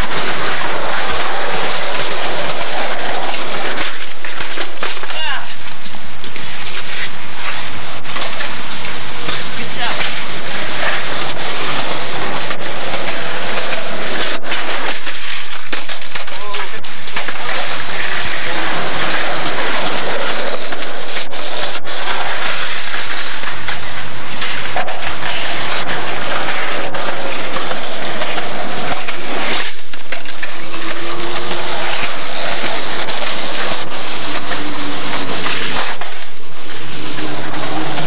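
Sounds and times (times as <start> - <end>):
camcorder audio hiss: 0.0 - 38.0
skateboard clacks: 0.0 - 38.0
skateboard wheels rolling on concrete: 0.0 - 38.0.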